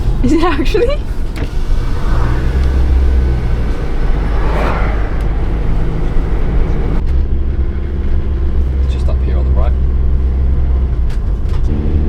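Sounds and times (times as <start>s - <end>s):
engine and road rumble in cab: 0.0s - 12.0s.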